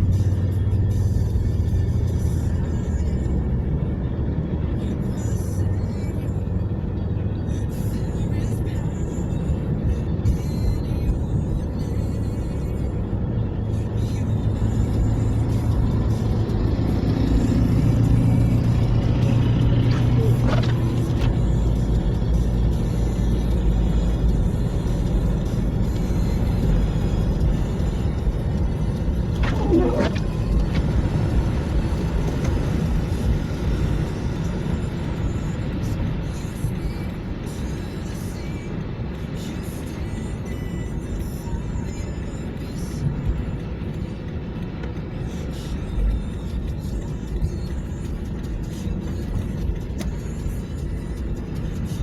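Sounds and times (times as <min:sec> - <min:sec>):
car driving drone: 0:00.0 - 0:52.0
road noise: 0:00.0 - 0:52.0.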